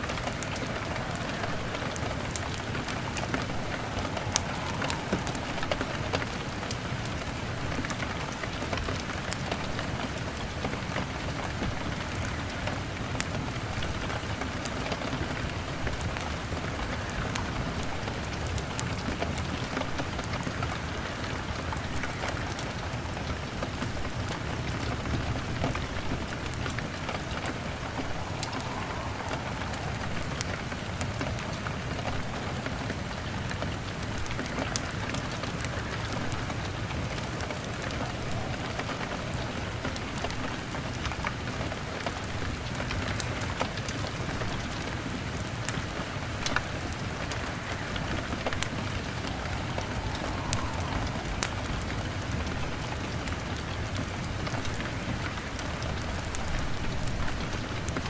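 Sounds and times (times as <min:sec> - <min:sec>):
log fire crackling: 0:00.0 - 0:58.0
rain on a window pane: 0:00.0 - 0:58.0.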